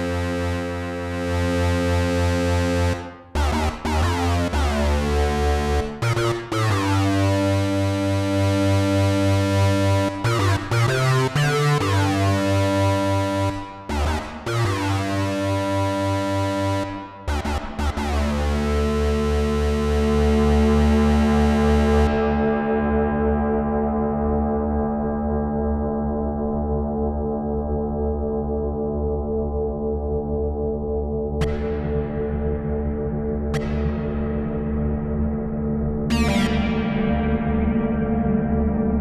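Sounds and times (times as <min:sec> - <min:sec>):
reverberant synthesizer chords: 0:00.0 - 0:23.7, 0:26.0 - 0:39.0
deep bass: 0:00.0 - 0:26.6, 0:28.2 - 0:39.0.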